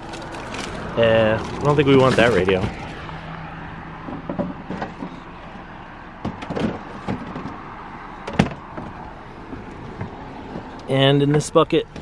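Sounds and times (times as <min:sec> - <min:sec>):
junk and buckets clunking: 0:00.0 - 0:03.2, 0:04.0 - 0:05.4, 0:06.1 - 0:12.0
outdoor background noise: 0:00.0 - 0:12.0.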